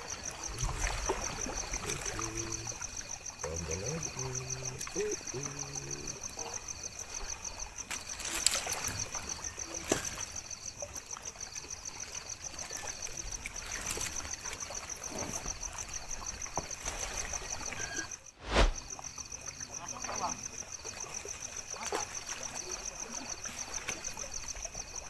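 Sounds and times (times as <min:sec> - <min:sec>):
insects trilling: 0:00.0 - 0:25.0
water trickling: 0:00.0 - 0:25.0.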